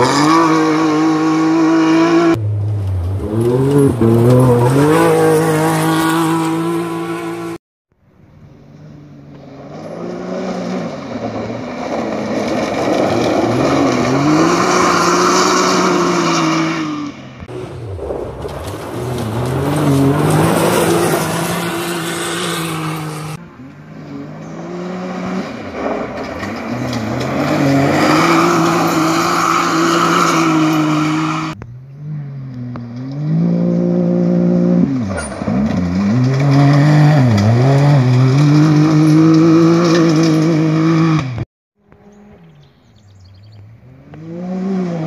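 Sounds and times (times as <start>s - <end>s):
rally car engines racing past: 8.5s - 45.0s.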